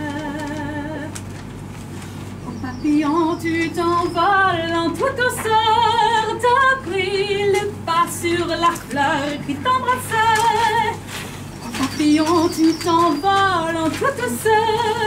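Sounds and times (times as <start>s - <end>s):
woman singing with vibrato: 0.0s - 1.2s, 2.5s - 15.0s.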